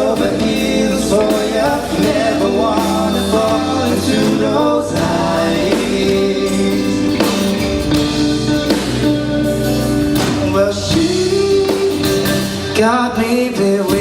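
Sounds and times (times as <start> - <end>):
sustained tones: 0.0 - 11.6
bass: 0.0 - 14.0
drums: 0.0 - 14.0
guitar chords: 0.0 - 14.0.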